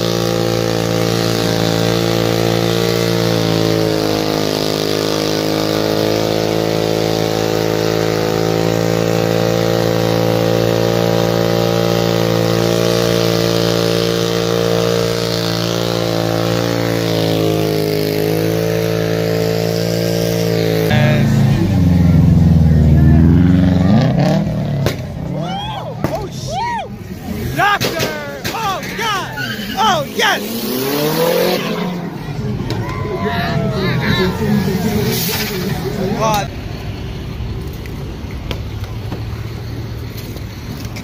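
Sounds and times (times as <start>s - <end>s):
car engine at high revs: 0.0s - 26.4s, 27.0s - 41.0s
tyres spinning on asphalt: 0.0s - 41.0s.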